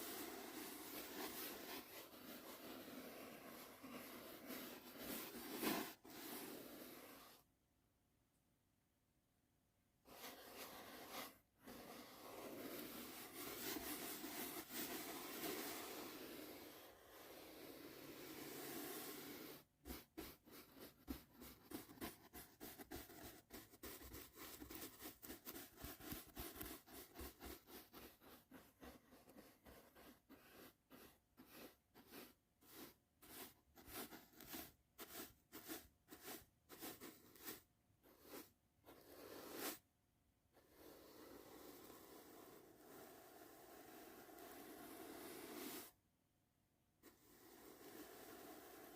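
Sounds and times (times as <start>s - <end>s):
brush strokes on microphone: 0.0s - 7.4s, 10.1s - 39.8s, 40.8s - 46.0s.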